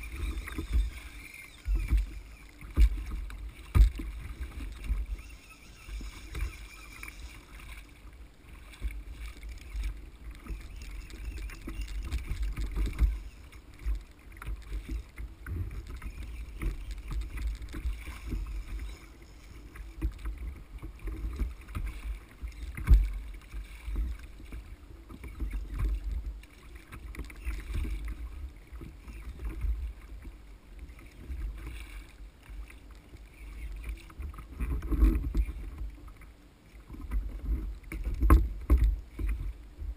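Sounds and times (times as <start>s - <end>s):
water slapping against kayak hull: 0.0s - 19.0s, 19.7s - 36.2s, 36.9s - 39.6s.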